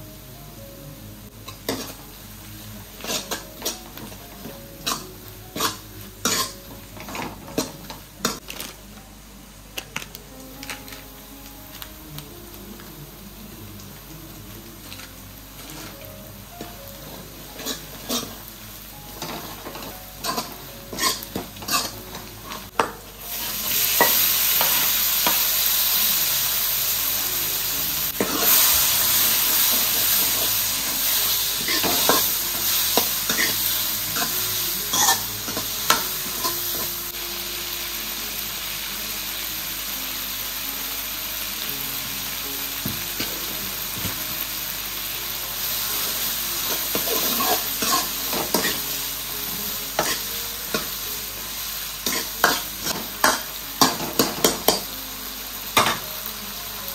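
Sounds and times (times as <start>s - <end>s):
loud sizzle of tomatoes in oil: 0.0s - 8.8s, 10.2s - 56.9s
onions frying in oil: 0.0s - 56.9s.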